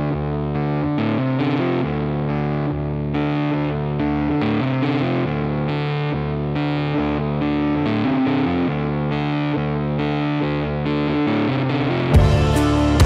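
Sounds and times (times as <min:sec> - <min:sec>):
distorted electric guitar chords: 0:00.0 - 0:13.0.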